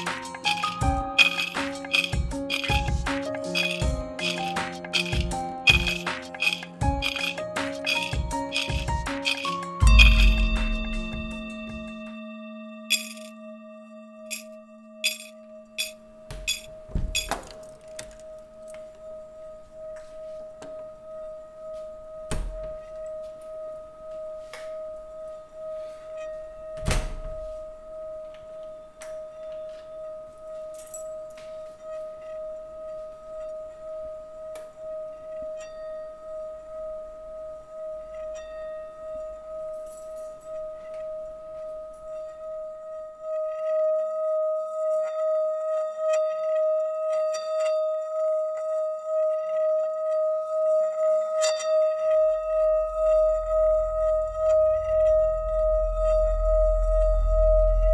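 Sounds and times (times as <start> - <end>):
pulsing metallic ringing tone: 0.0 - 57.9.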